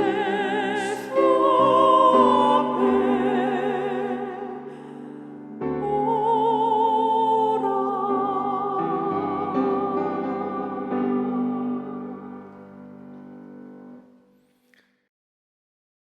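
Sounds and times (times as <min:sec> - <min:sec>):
piano chords ringing: 0:00.0 - 0:14.2.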